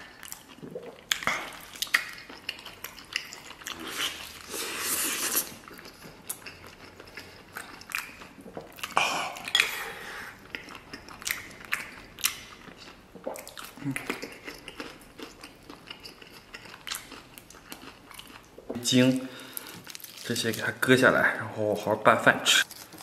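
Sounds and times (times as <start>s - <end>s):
person chewing wet food: 0.0s - 20.3s.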